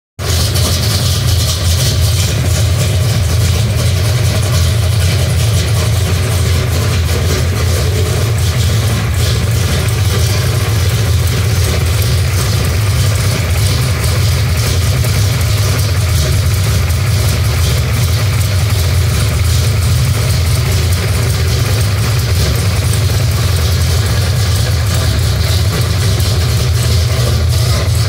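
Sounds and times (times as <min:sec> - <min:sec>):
car engine idling: 0:00.2 - 0:28.0.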